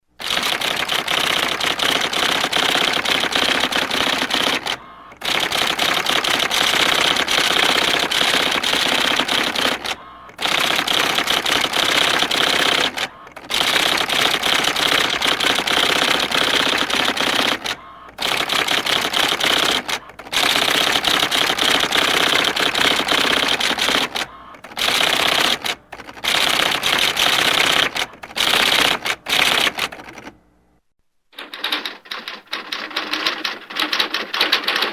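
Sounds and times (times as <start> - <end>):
printer clattering: 0.0 - 30.4, 31.4 - 34.9.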